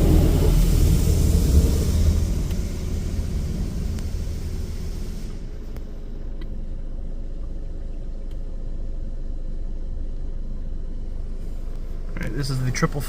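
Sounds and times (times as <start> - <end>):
car wash spray and machinery: 0.0 - 13.0
faint hum: 0.0 - 13.0.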